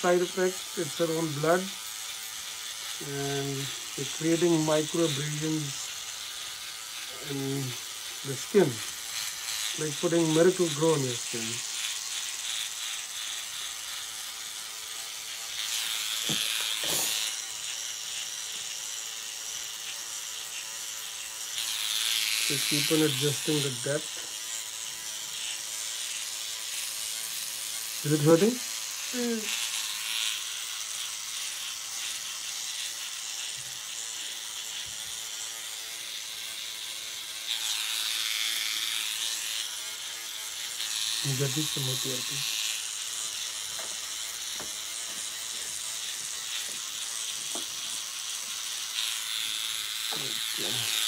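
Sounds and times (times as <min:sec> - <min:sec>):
microneedling pen buzzing: 0:00.0 - 0:51.0.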